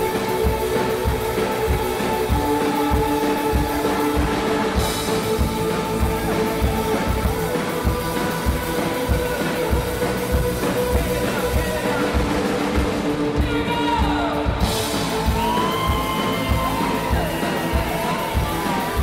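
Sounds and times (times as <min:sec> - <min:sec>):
drum beat: 0:00.0 - 0:19.0
electric bass: 0:00.0 - 0:19.0
synth chords: 0:00.0 - 0:19.0.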